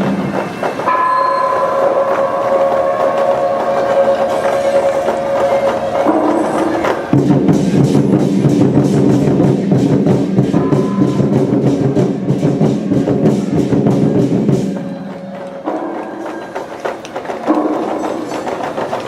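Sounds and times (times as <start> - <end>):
percussion band drumming: 0.0 - 19.0
ringing metal percussion: 0.0 - 19.0.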